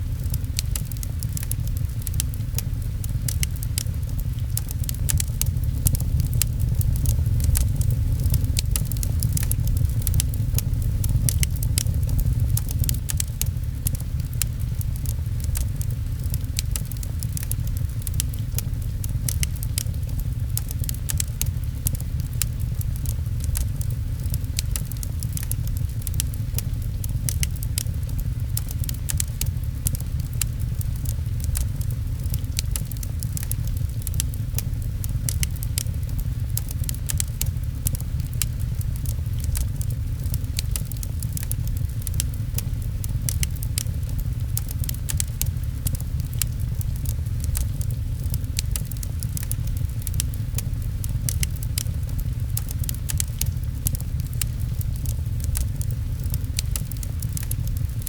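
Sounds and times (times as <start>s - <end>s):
rain pattering: 0.0s - 58.0s
steady deep rumble: 0.0s - 58.0s
wood fire crackling and popping: 0.0s - 58.0s.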